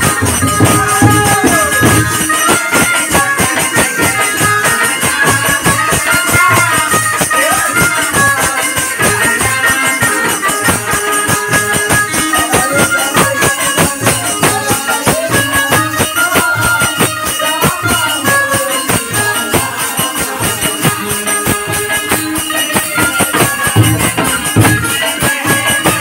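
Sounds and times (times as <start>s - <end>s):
barrel drum rhythm: 0.0s - 26.0s
harmonium melody: 0.0s - 26.0s
small hand cymbals jingling: 0.0s - 26.0s.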